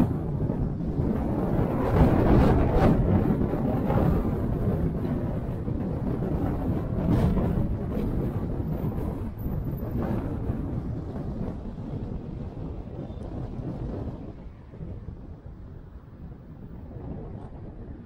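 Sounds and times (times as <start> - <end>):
road and engine rumble: 0.0 - 18.0
wind buffeting microphone: 0.0 - 18.0.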